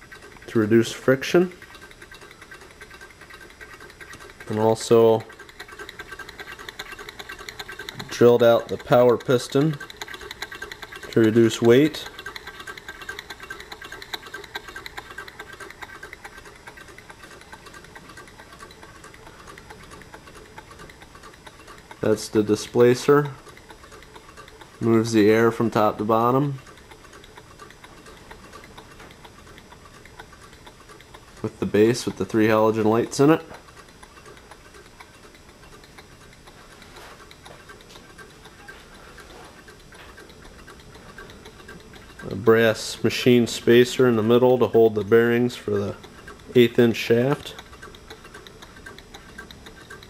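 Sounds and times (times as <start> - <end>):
engine rapid mechanical ticking: 0.0 - 50.0.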